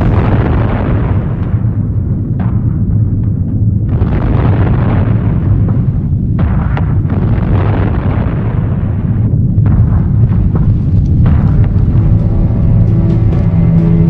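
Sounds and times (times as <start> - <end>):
explosions rumbling: 0.0 - 14.0
sharp explosion cracks: 0.0 - 14.0.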